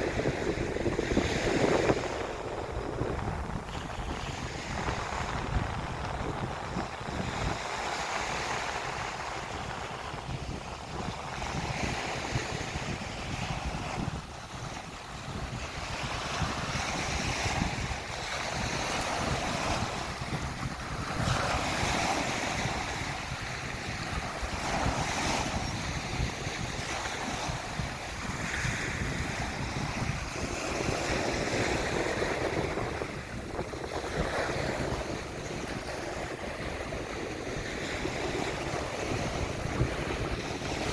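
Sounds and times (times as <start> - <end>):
small waves breaking on beach: 0.0 - 40.9
wind buffeting microphone: 0.0 - 40.9.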